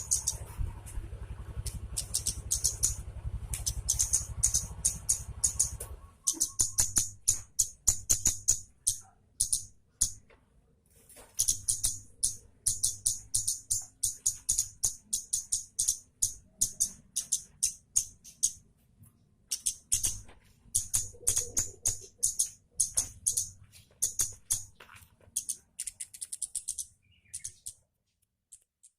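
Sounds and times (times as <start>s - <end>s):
bird chattering song: 0.0s - 0.6s, 1.6s - 10.2s, 11.4s - 18.7s, 19.5s - 27.8s.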